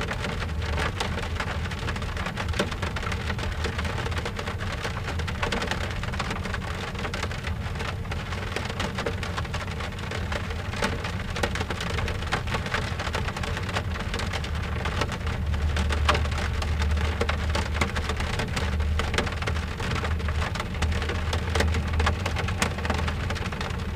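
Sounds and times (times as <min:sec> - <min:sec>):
rain ticking on car window: 0:00.0 - 0:23.9.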